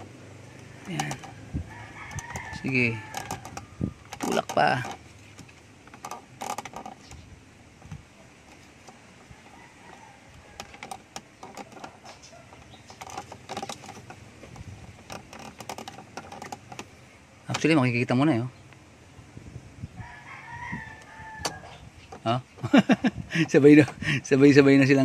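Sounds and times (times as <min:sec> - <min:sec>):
plastic vent louver creaking and clicking: 0:00.0 - 0:18.1, 0:20.7 - 0:22.8, 0:23.4 - 0:25.0.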